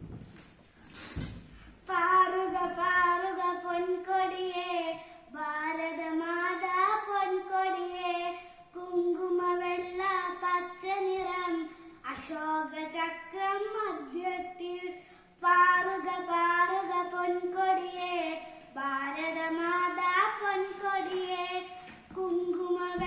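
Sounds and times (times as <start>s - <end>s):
child singing: 1.9s - 23.0s.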